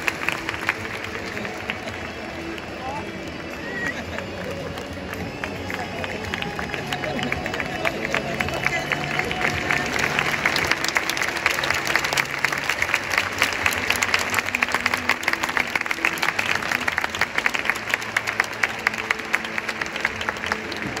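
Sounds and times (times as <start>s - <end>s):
crowd applauding: 0.0s - 21.0s
faint background music: 0.0s - 21.0s.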